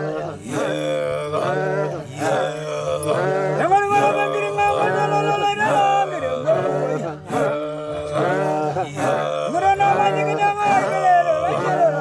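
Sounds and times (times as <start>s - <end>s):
men singing unaccompanied: 0.0s - 12.0s.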